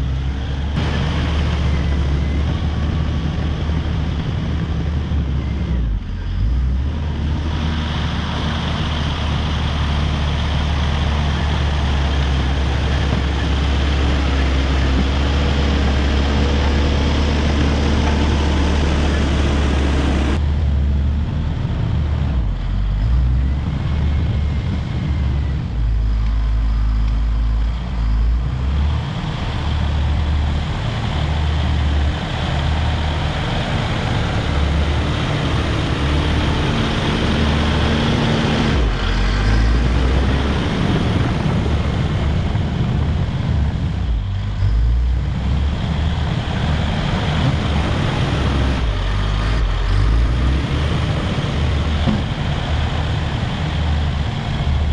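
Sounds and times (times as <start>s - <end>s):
bulldozer diesel engine rumbling: 0.0s - 54.9s.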